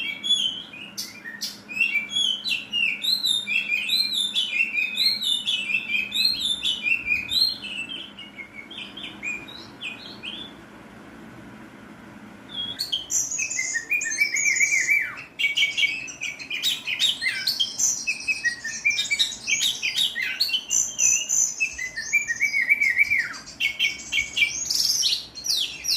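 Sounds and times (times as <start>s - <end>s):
bird singing varied song: 0.0s - 10.6s, 12.5s - 25.9s.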